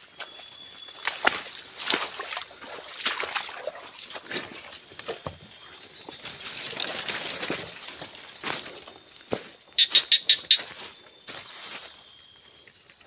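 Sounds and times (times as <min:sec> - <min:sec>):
footsteps through wet undergrowth: 0:00.0 - 0:12.4
insect chorus: 0:00.0 - 0:13.0.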